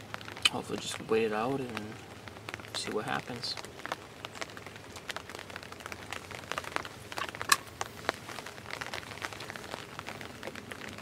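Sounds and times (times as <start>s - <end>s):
light taps and crackles: 0.0s - 11.0s.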